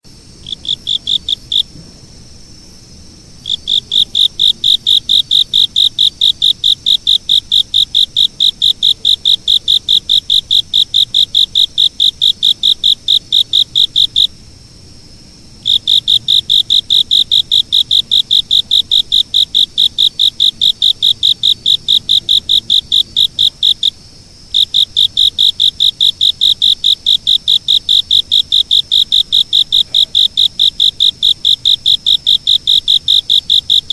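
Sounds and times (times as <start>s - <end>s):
cricket chirping: 0.1s - 33.9s.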